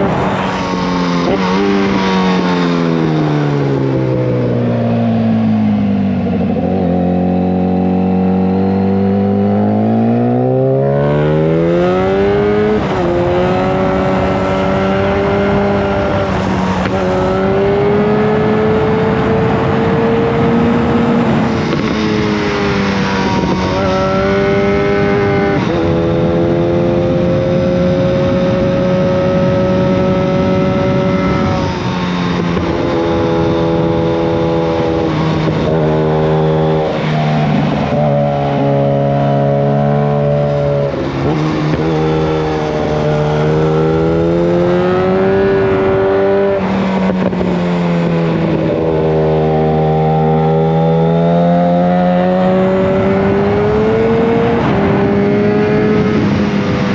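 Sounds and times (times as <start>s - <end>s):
loud motorcycle engine revving: 0.0s - 56.9s.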